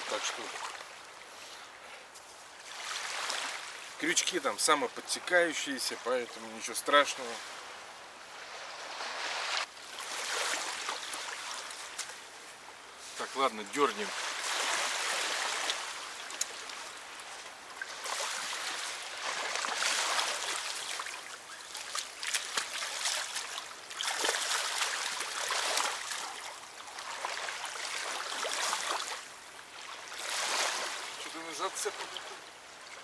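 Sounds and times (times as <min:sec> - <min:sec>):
river water trickling: 0:00.0 - 0:33.0.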